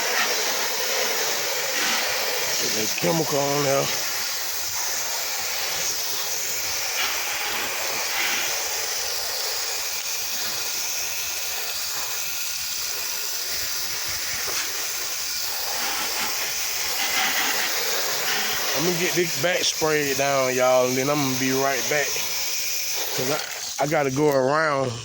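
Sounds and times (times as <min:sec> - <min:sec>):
pressure washer spray hissing: 0:00.0 - 0:25.0.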